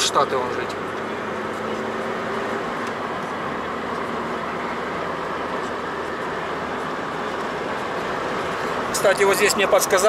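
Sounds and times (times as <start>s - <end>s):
car road noise: 0.0s - 10.0s.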